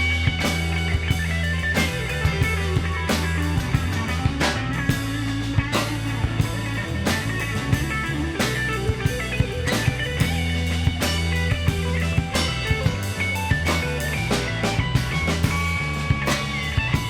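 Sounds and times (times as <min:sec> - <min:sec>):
drum kit: 0:00.0 - 0:17.0
electric guitar: 0:00.0 - 0:17.0
live rock band instrumental: 0:00.0 - 0:17.0.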